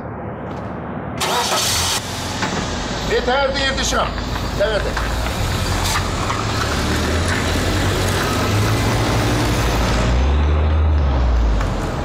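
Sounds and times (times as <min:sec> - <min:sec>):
vehicle engine running: 0:01.2 - 0:12.0.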